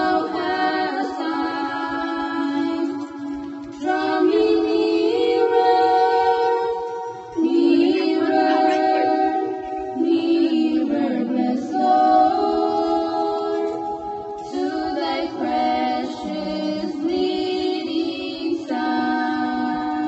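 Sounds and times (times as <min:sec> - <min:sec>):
women singing unaccompanied: 0:00.0 - 0:20.0.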